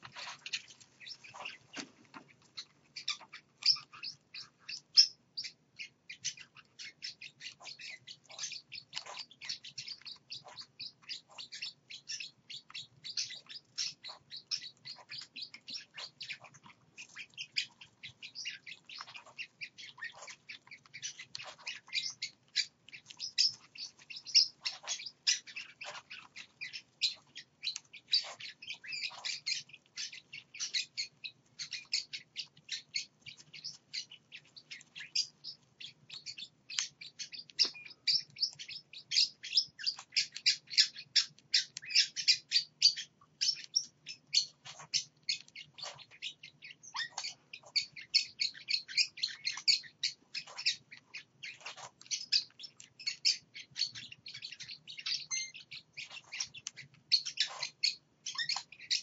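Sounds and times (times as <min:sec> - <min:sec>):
parrots chirping: 0:00.0 - 0:59.0.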